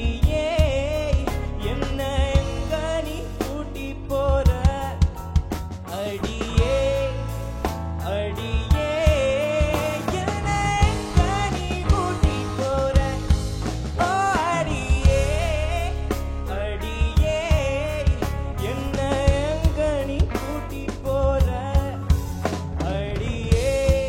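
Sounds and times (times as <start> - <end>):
bass line: 0.0 - 24.0
drum kit hits: 0.0 - 24.0
man singing: 0.0 - 24.0.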